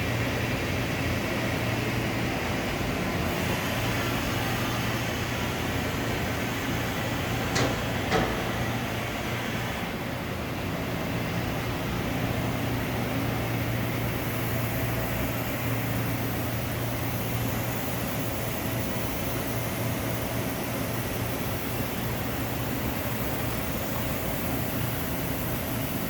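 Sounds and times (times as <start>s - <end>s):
industrial machinery hum: 0.0s - 26.0s.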